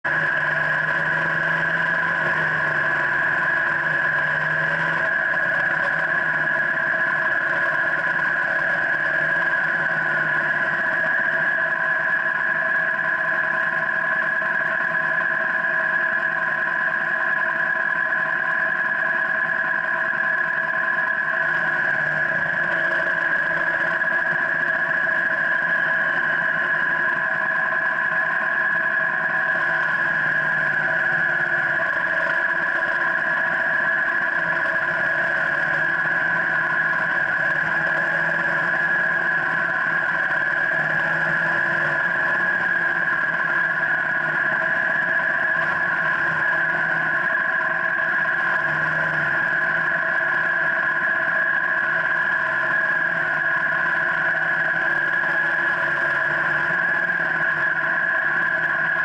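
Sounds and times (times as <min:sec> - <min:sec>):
motorcycle engine running steadily: 0:00.0 - 0:59.0.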